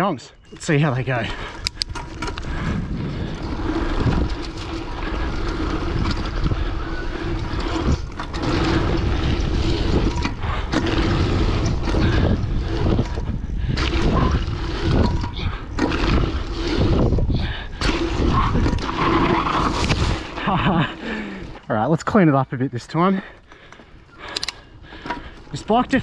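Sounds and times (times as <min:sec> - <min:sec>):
wind rushing over microphone: 0:00.4 - 0:21.6
bike tyre and drivetrain noise: 0:00.4 - 0:26.0.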